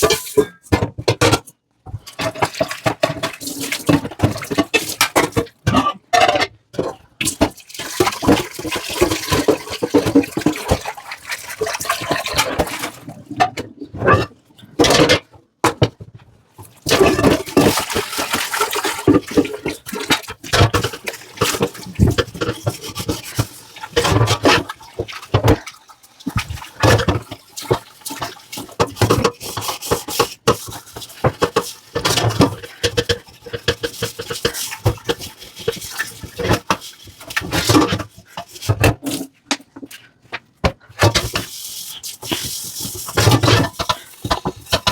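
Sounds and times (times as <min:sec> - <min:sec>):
scrubbing dishes: 0:00.0 - 0:01.4, 0:02.0 - 0:15.9, 0:16.6 - 0:40.1, 0:40.7 - 0:44.9
tap water running and splashing: 0:02.0 - 0:05.6, 0:07.2 - 0:13.3, 0:16.6 - 0:39.2, 0:41.0 - 0:44.9.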